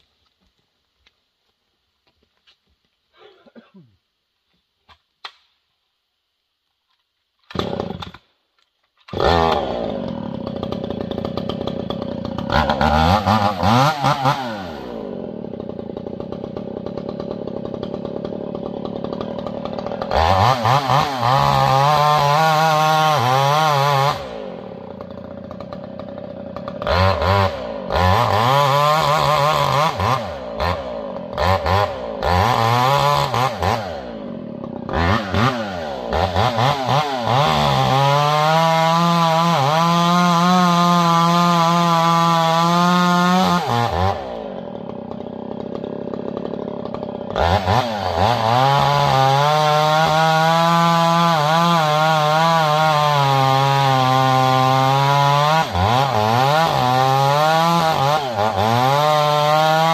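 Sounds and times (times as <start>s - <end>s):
chainsaw cutting tree: 7.4s - 8.3s, 9.0s - 59.9s.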